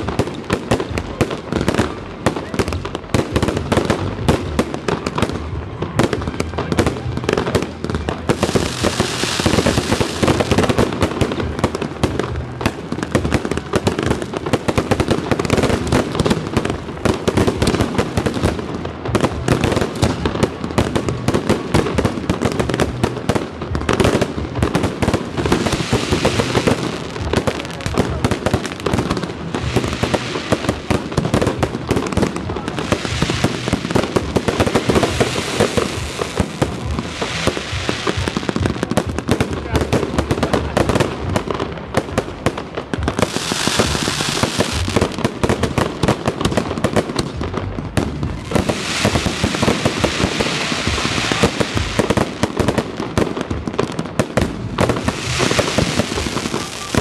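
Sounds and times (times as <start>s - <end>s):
fireworks crackling hiss: 0.0s - 57.0s.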